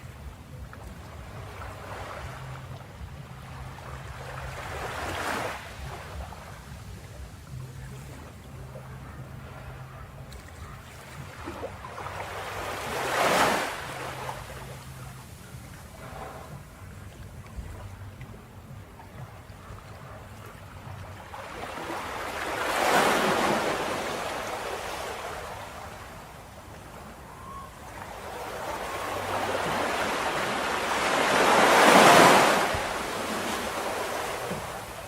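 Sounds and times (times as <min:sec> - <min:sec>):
ocean waves crashing on shore: 0:00.0 - 0:17.0, 0:21.2 - 0:35.0.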